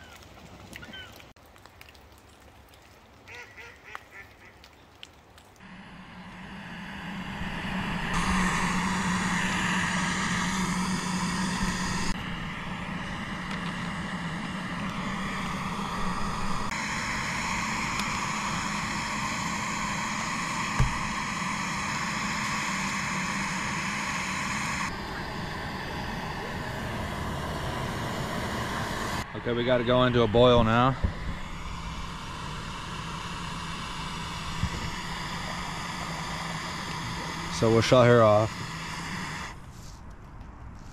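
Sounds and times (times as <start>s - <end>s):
gas stove burner hissing: 5.6s - 39.7s.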